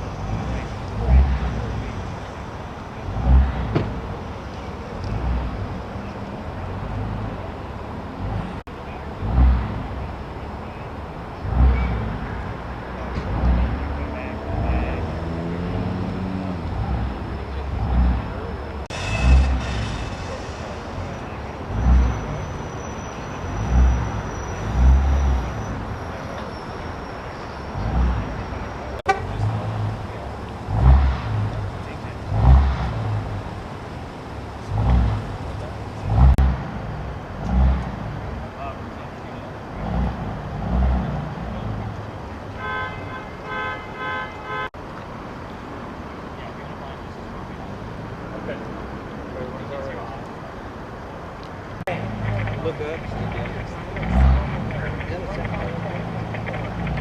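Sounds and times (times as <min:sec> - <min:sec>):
road vehicle rumble: 0:00.0 - 0:57.0.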